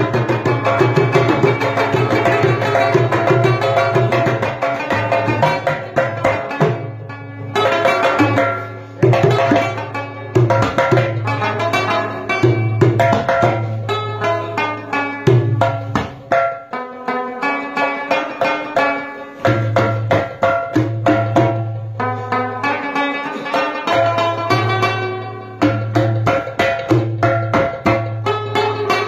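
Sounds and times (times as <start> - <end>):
hand-struck pot drum: 0.0 - 7.0, 7.6 - 29.0
rabab plucked melody: 0.0 - 29.0.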